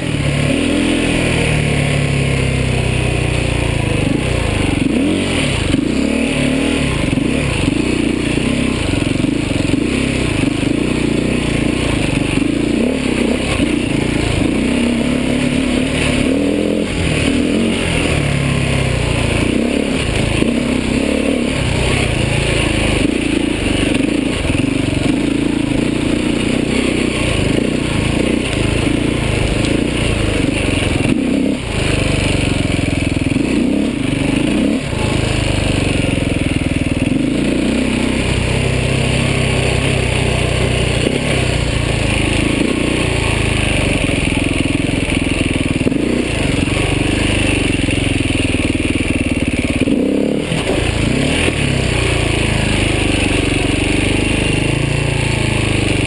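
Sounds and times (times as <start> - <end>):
motorcycle engine running hard: 0.0 - 56.0.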